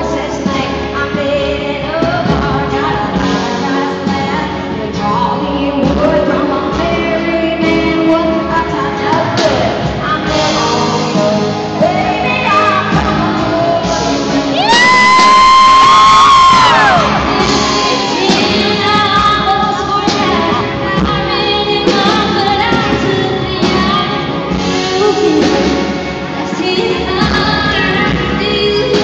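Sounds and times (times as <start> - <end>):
live country band playing: 0.0 - 29.0
women singing lead vocal: 0.0 - 29.0.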